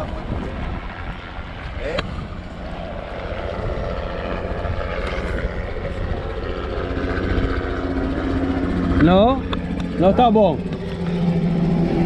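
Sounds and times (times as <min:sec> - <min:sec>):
motor running with low rumble: 0:00.0 - 0:12.0
steady hum: 0:00.0 - 0:12.0.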